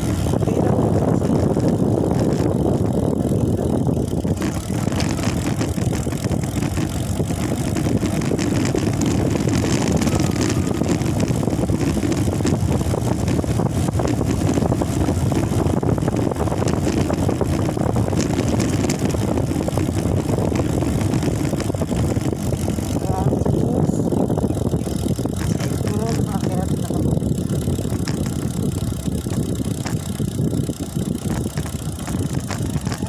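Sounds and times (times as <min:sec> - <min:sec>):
vehicle engine and road noise: 0:00.0 - 0:33.0
wind on microphone: 0:00.0 - 0:33.0.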